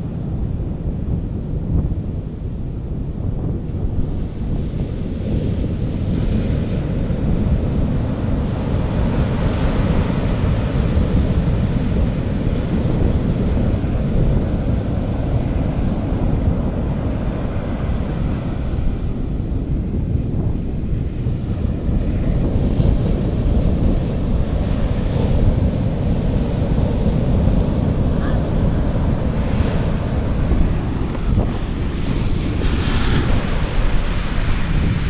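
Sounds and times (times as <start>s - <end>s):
wind on microphone: 0.0s - 35.0s
waves washing onto beach: 3.8s - 35.0s.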